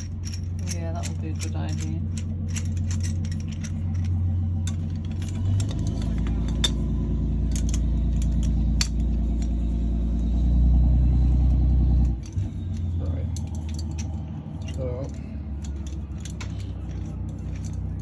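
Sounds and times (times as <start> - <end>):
metallic clinks of tools: 0.0 - 9.6, 12.0 - 18.0
low mechanical hum: 0.0 - 18.0.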